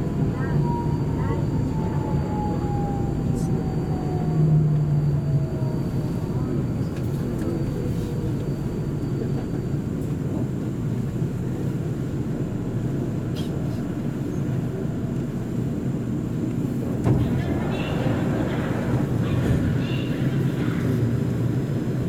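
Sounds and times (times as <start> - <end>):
train wheels rumbling on rail: 3.3 - 22.0.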